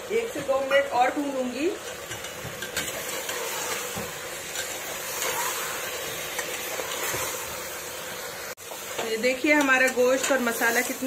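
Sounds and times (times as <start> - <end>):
masala sizzling with steady hiss: 0.0 - 11.0.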